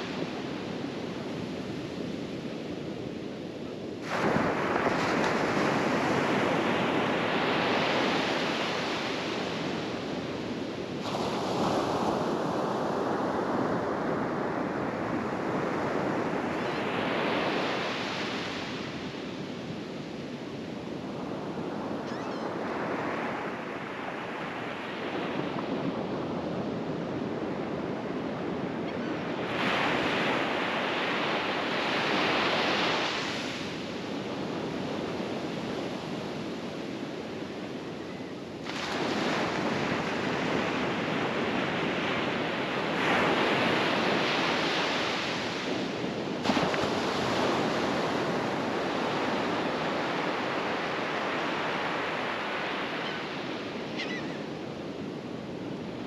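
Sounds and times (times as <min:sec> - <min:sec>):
small waves washing up shore: 0:00.0 - 0:56.0.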